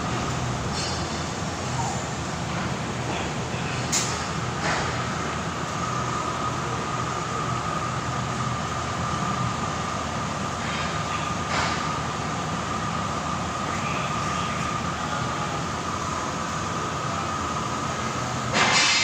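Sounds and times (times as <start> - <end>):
lathe whine and hum: 0.0 - 19.0.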